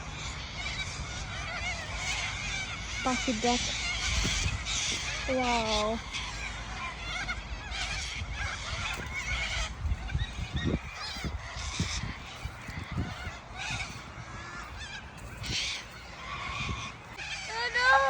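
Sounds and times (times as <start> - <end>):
cockatoos screeching: 0.0 - 18.0
wind rumble on microphone: 0.0 - 18.0.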